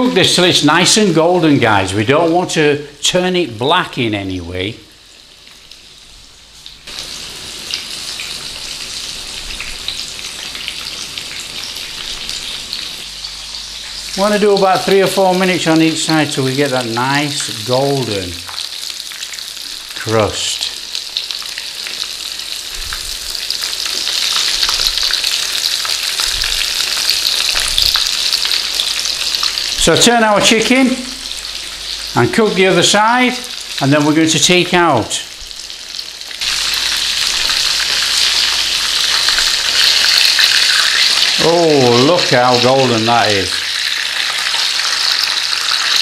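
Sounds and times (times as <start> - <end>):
chicken sizzling in oil: 4.4 - 46.0.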